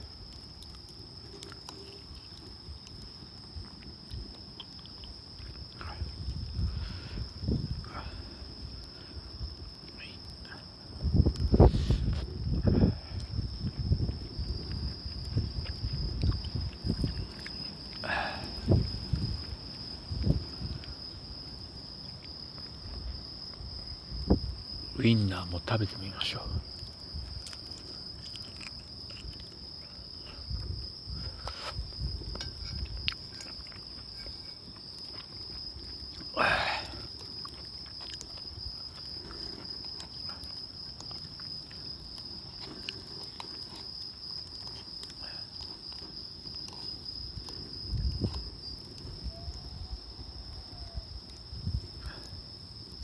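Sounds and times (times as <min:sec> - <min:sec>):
insect chirring trill: 0:00.0 - 0:53.0.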